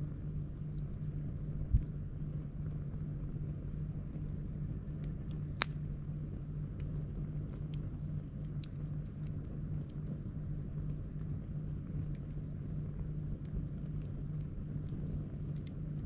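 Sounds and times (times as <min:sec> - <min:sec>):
campfire wood crackling: 0:00.0 - 0:16.0
low pulsing hum: 0:00.0 - 0:16.0.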